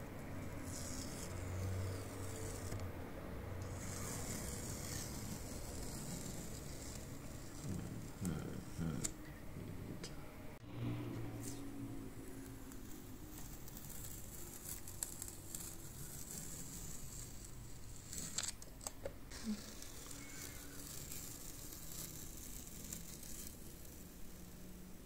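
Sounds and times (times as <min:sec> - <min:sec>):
tape peeling off paper: 0:00.1 - 0:02.9, 0:03.6 - 0:09.4, 0:12.2 - 0:24.7.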